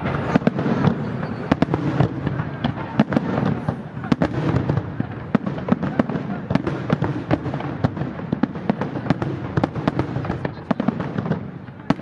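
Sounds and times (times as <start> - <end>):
fireworks bursting: 0.0 - 12.0
fireworks rumble and crackle: 0.0 - 12.0.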